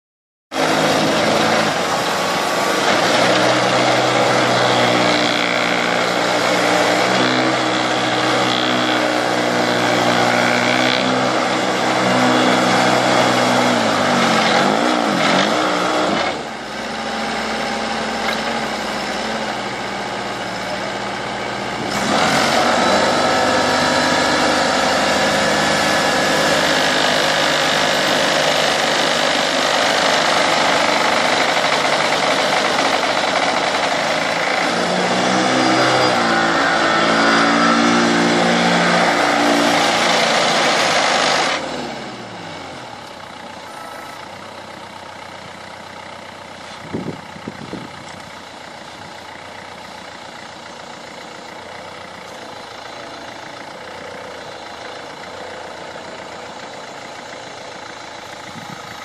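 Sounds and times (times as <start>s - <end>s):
digging machine engine running: 0.6s - 59.0s.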